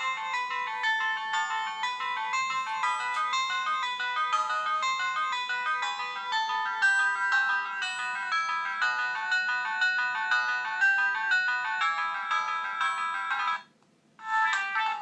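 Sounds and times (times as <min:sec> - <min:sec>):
polyphonic phone ringtone: 0:00.0 - 0:15.0.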